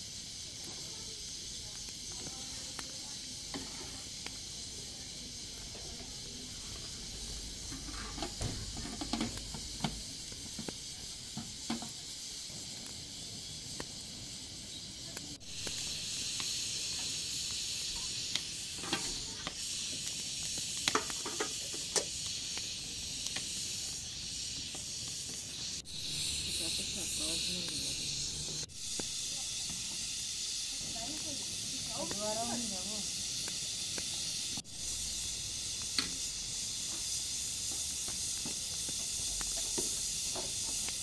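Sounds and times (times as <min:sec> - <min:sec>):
fire crackling: 0:00.0 - 0:41.0
steady hiss of steaming pot: 0:00.0 - 0:41.0.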